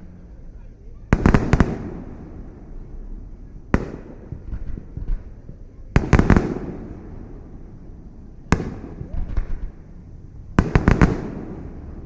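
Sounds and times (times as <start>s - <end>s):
fireworks bangs with echo: 1.0s - 12.0s.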